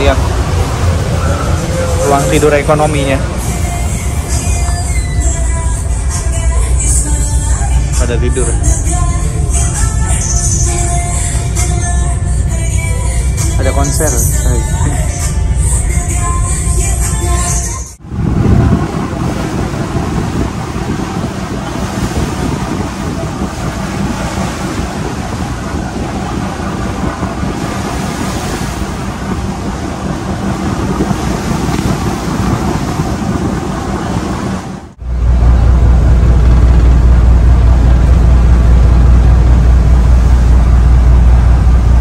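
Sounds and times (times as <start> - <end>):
sea noise: 0.0 - 42.0
ship diesel engine running: 0.0 - 42.0
wind: 0.0 - 42.0.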